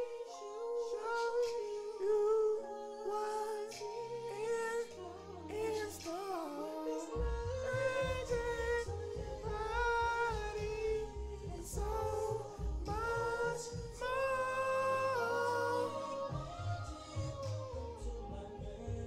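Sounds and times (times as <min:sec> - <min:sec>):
person singing wordless notes: 0:00.0 - 0:19.0
r and b backing track: 0:00.0 - 0:19.0.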